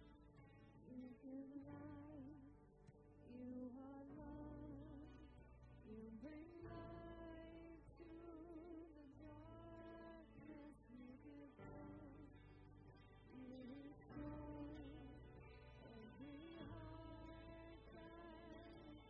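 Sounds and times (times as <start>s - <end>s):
young woman singing: 0.8s - 2.5s, 3.3s - 12.4s, 13.3s - 19.0s.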